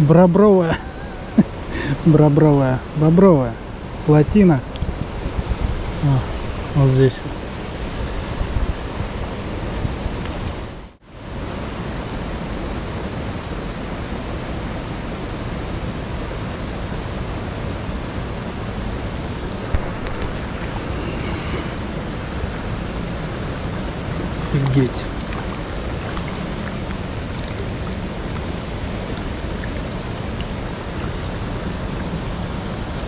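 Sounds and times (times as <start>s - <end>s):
stream water rushing: 0.4s - 33.0s.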